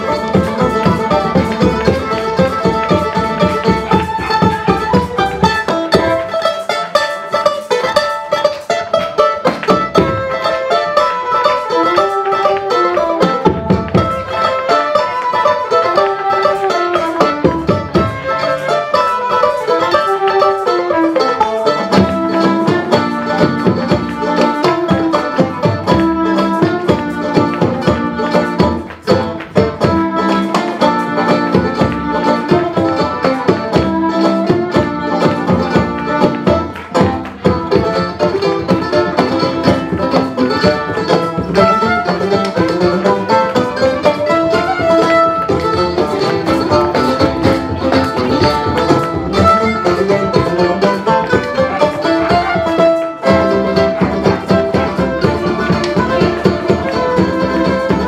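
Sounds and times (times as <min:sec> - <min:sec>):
low accompaniment: 0:00.0 - 0:58.0
plucked strings fast melody: 0:00.0 - 0:58.0.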